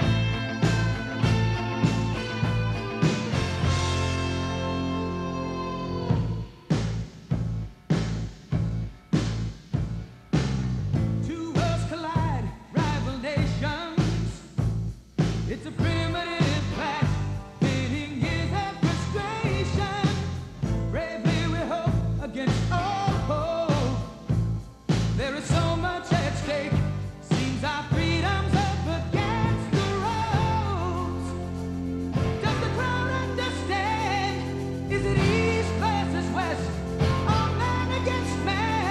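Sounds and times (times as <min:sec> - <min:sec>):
rock song with singing: 0:00.0 - 0:38.9
steady drum beat: 0:00.0 - 0:38.9.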